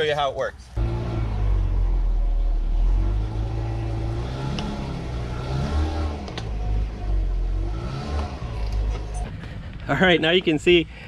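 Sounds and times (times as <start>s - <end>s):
engine idling and revving: 0.7s - 10.6s.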